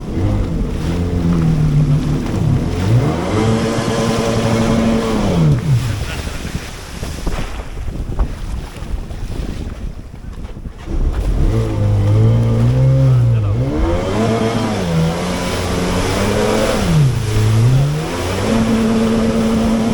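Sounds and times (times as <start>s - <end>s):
watercraft engine revving: 0.0s - 9.2s, 10.6s - 19.9s
wind and water rushing: 0.0s - 19.9s.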